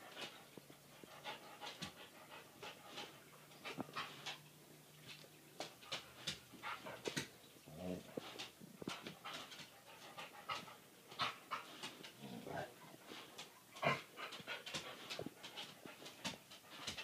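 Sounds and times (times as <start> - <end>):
dog panting: 0.0 - 4.5, 5.1 - 17.0.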